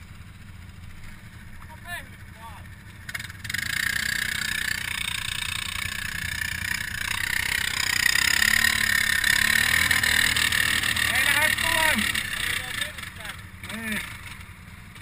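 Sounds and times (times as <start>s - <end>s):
atv motor running hard: 0.0s - 15.0s.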